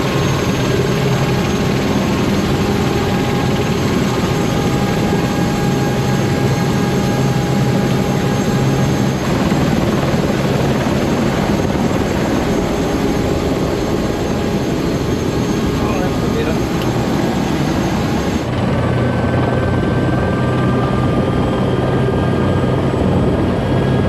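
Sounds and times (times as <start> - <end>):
loud engine drone: 0.0 - 24.0.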